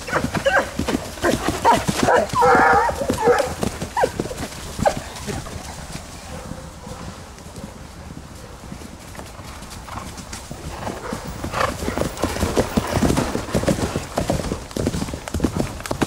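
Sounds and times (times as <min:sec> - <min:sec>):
horse hooves galloping on grass: 0:00.0 - 0:16.0.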